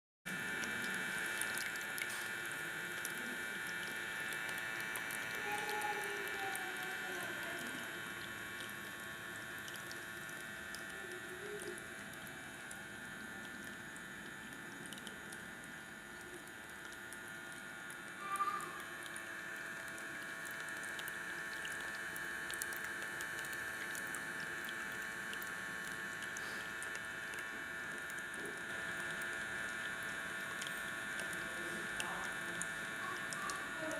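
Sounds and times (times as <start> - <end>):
high-pitched hum: 0.3 - 33.9
water trickling in fountain: 0.3 - 33.9.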